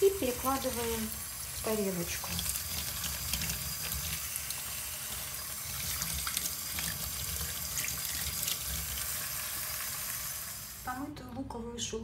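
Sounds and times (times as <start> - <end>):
tap water running into sink: 0.0 - 10.8
onion skins crackling: 0.0 - 10.9.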